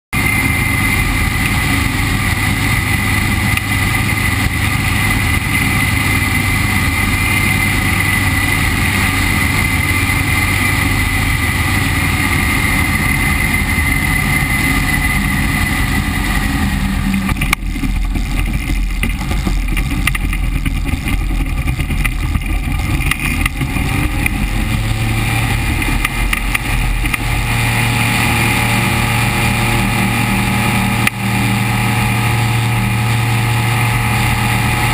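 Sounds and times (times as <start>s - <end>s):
airplane engine droning: 0.1s - 34.9s
rising tone with low hum: 0.1s - 34.9s
wind rush: 0.2s - 34.9s.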